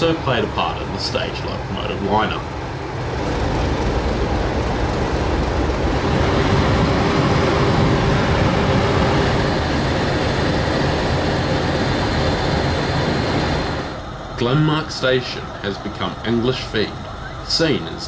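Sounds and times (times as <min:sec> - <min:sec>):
locomotive engine idling: 0:00.0 - 0:18.0.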